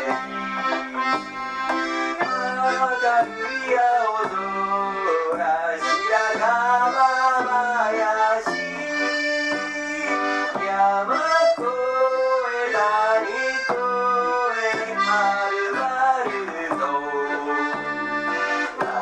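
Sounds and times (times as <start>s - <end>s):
accordion melody: 0.0s - 19.0s
acoustic guitar: 0.0s - 19.0s
upright bass: 0.0s - 19.0s.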